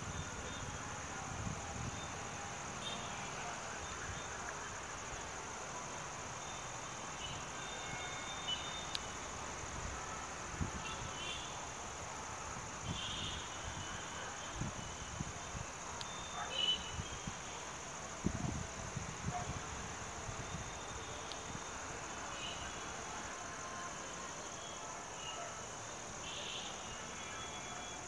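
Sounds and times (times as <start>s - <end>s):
crickets calling: 0.0s - 28.0s.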